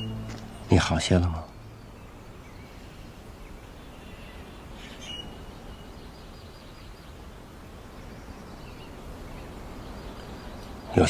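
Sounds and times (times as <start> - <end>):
birds chirping faintly: 0.0 - 11.0
low ambient background: 0.0 - 11.0.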